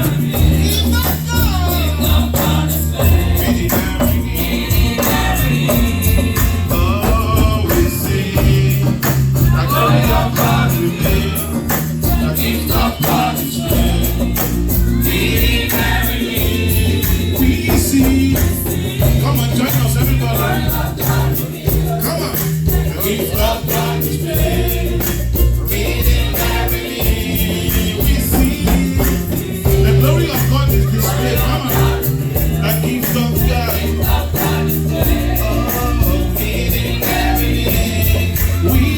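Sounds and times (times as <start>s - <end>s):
choir singing gospel: 0.0s - 38.9s
deep bass line: 0.0s - 38.9s
steady beat: 0.0s - 38.9s
tambourine shaking: 0.0s - 38.9s.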